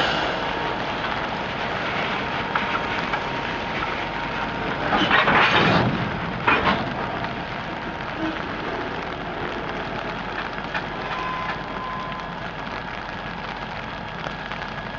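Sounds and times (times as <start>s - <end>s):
freight cars clanking: 0.0s - 12.8s
train wheels clattering on rails: 0.0s - 13.4s.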